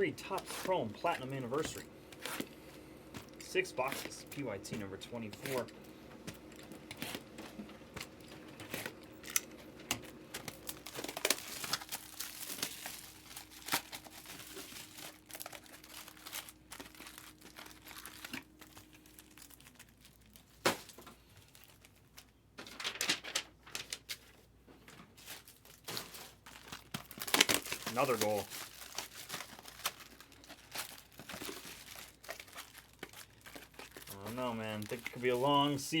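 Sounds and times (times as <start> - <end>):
plastic wrapping crinkling and tearing: 0.0 - 5.7, 6.3 - 36.0.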